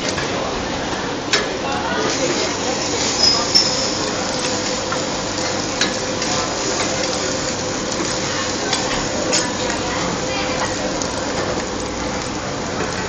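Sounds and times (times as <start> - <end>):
oyster omelette sizzling: 1.8 - 13.0.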